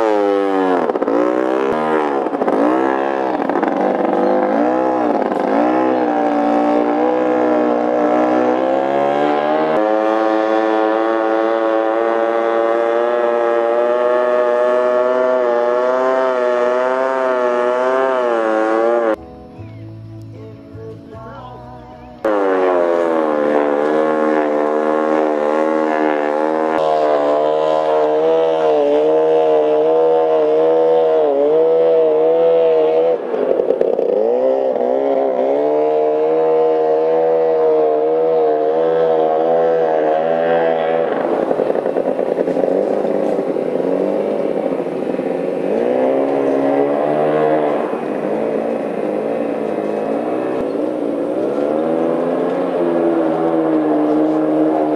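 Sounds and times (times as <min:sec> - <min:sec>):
outboard motor running: 0:00.0 - 0:19.2, 0:22.2 - 0:54.9.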